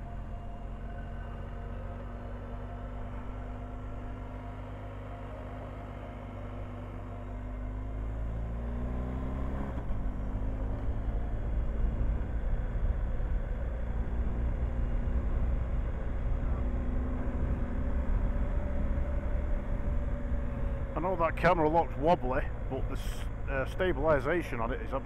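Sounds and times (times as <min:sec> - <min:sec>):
low rumble of wind: 0:00.0 - 0:25.0.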